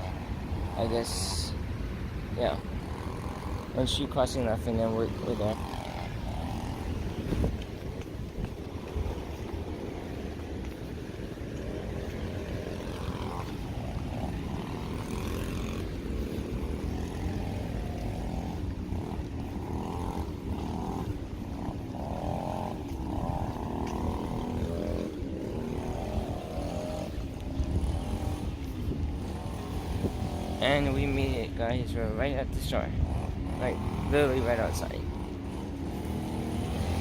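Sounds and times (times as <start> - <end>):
cars passing by: 0.0 - 37.0.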